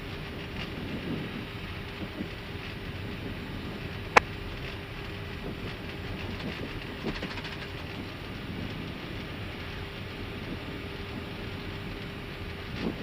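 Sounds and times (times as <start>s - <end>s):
aircraft cockpit rumble and hiss: 0.0s - 13.0s.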